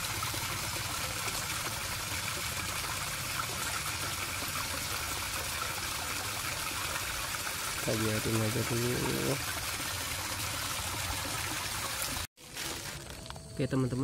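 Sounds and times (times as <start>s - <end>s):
water pouring and splashing: 0.0s - 13.5s.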